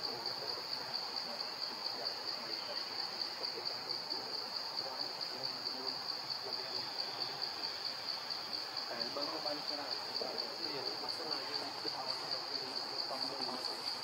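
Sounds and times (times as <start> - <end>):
faint low murmur: 0.0 - 14.0
high-pitched insect chorus: 0.0 - 14.0.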